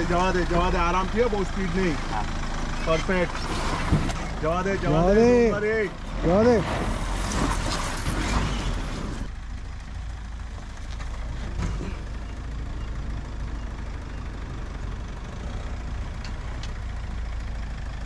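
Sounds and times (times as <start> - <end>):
vehicle engine running at low revs: 0.0 - 18.0.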